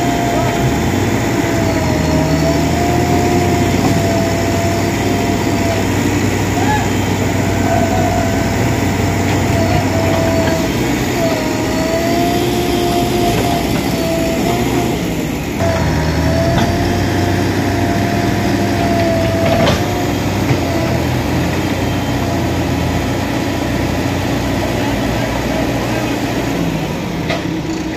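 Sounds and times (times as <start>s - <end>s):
engine running with whine: 0.0s - 27.9s.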